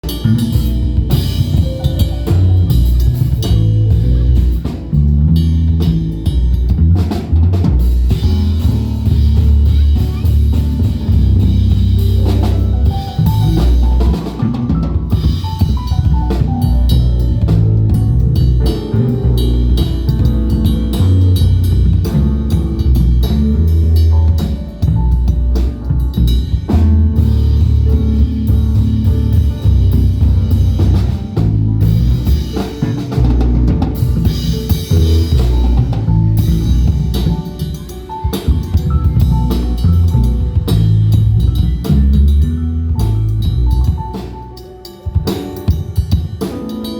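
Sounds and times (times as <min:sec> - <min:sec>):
drum kit music with heavy bass: 0:00.0 - 0:46.9.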